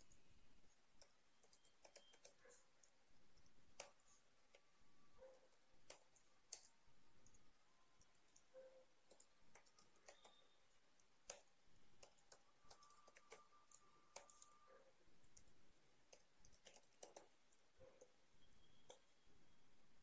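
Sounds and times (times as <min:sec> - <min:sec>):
computer keyboard typing: 0:00.1 - 0:04.6, 0:05.3 - 0:18.2, 0:18.8 - 0:19.2.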